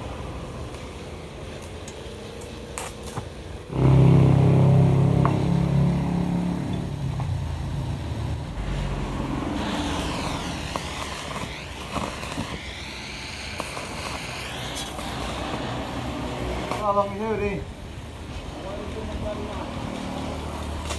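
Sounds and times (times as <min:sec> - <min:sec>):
wavering hiss: 0:00.0 - 0:20.9.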